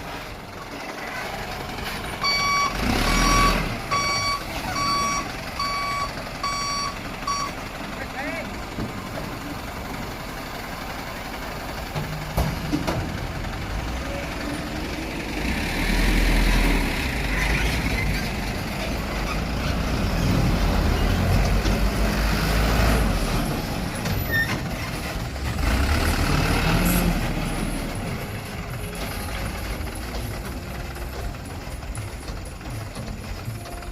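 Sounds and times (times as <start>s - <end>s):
dump truck engine running: 0.0s - 33.9s.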